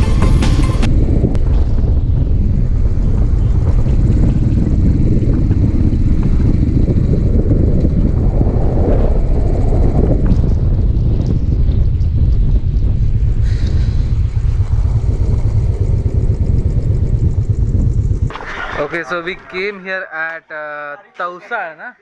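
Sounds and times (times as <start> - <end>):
motorcycle engine rumble: 0.0 - 19.6
wind buffeting microphone: 0.8 - 19.6.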